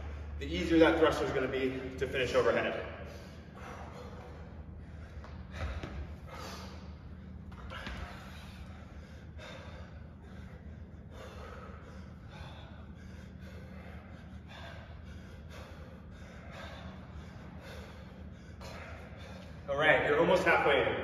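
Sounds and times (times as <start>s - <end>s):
low steady hum: 0.0s - 21.0s
person breathing hard: 1.7s - 19.7s.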